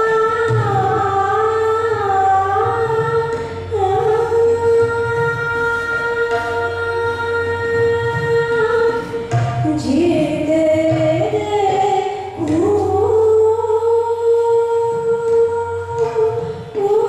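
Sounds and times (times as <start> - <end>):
woman singing classical vocal: 0.0 - 17.0.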